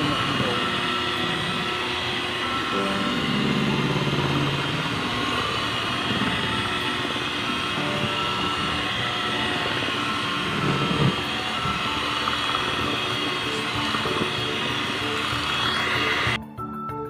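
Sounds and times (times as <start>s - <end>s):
electric hand mixer whipping: 0.0s - 16.4s.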